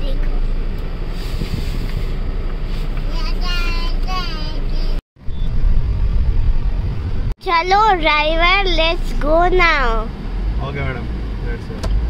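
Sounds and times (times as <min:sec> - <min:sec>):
car engine rumble from inside: 0:00.0 - 0:12.0.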